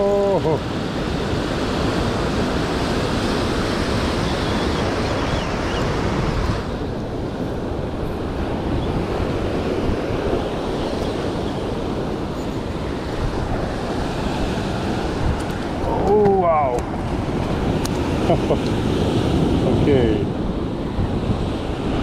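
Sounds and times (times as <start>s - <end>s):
surf breaking on rocky shore: 0.0s - 22.0s
wind on microphone: 0.0s - 22.0s.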